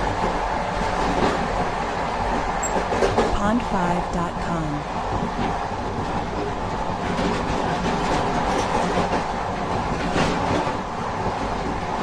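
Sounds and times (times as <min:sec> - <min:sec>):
clanks and rattles of train cars: 0:00.0 - 0:03.6, 0:05.0 - 0:12.0
train wheels rumbling on rails: 0:00.0 - 0:04.0, 0:04.9 - 0:12.0.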